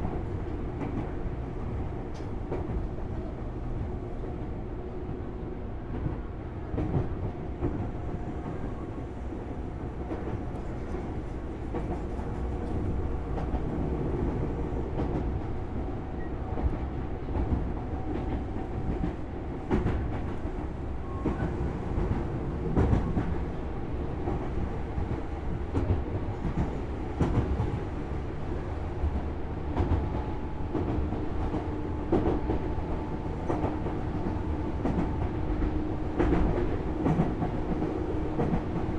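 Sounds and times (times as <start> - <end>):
train wheels rumbling: 0.0 - 38.9.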